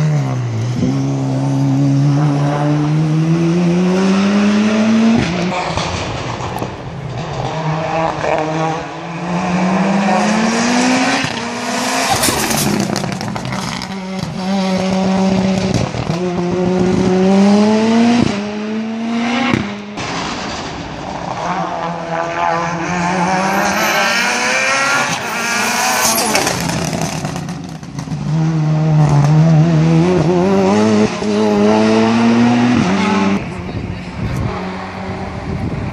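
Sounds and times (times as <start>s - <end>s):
race car engine at full throttle: 0.0s - 35.9s.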